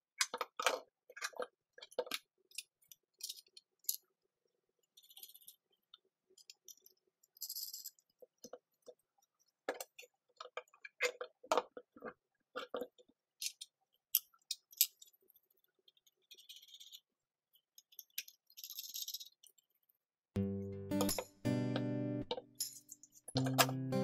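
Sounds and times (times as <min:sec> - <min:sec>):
small parts clicking and knocking: 0:00.0 - 0:20.2, 0:22.2 - 0:23.8.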